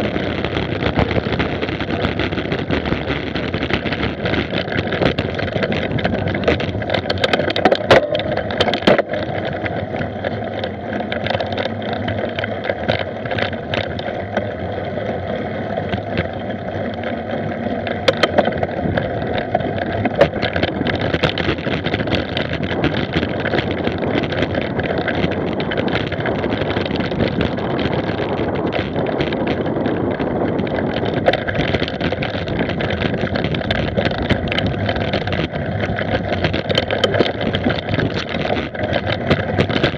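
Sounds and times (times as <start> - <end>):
bike rattling and knocking: 0.0 - 39.9.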